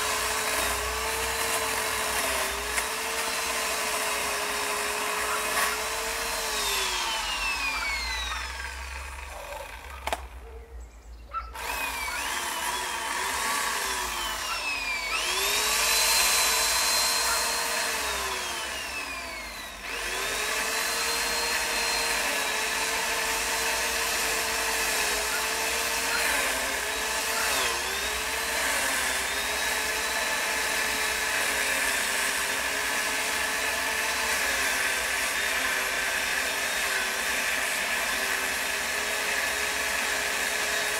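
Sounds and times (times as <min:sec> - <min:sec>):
power saw motor running: 0:00.0 - 0:10.5, 0:11.4 - 0:40.9.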